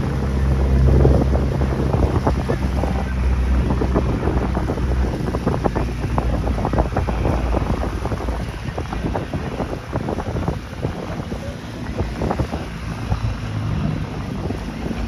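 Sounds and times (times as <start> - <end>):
motorboat engine humming: 0.0 - 15.0
wind buffeting microphone: 0.0 - 15.0.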